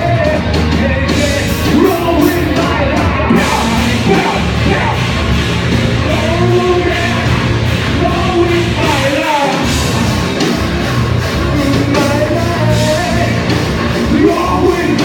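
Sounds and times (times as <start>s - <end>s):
person singing: 0.0s - 5.4s, 6.0s - 9.9s, 11.3s - 15.0s
live rock band playing: 0.0s - 15.0s.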